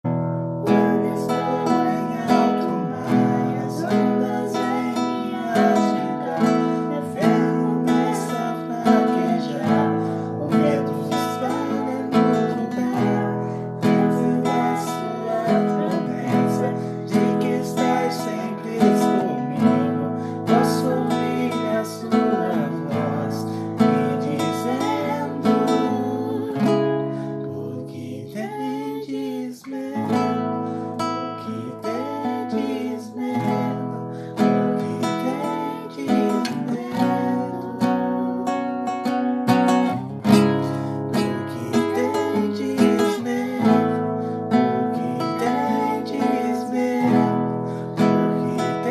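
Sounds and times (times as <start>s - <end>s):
acoustic guitar strumming: 0.0s - 48.9s
person singing: 0.0s - 48.9s.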